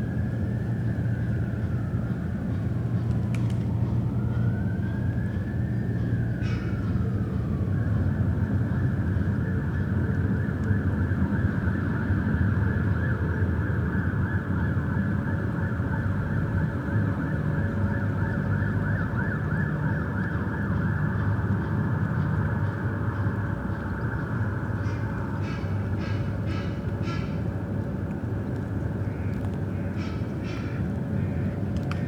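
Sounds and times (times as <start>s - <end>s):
low city rumble: 0.0s - 32.0s.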